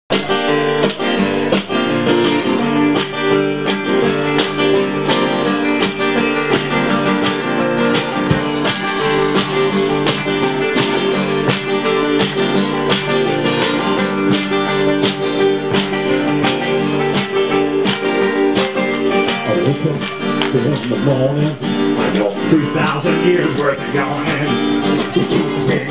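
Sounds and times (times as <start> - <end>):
steady percussive beat: 0.1 - 25.9
strummed acoustic guitars: 0.1 - 25.9.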